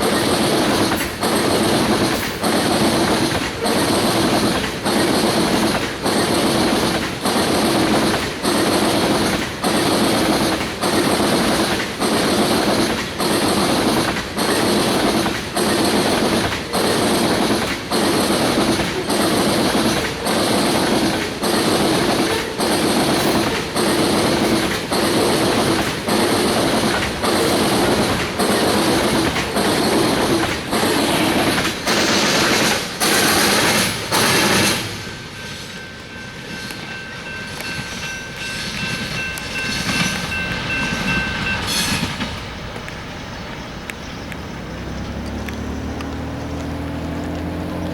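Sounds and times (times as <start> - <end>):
freight train wheels clattering: 0.0 - 47.9.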